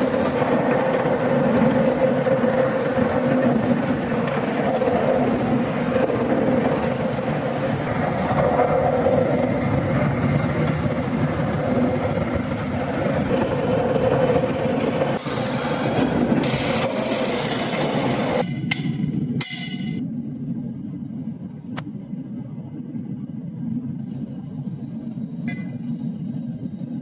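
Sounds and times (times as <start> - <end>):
machinery droning hum: 0.0 - 27.0.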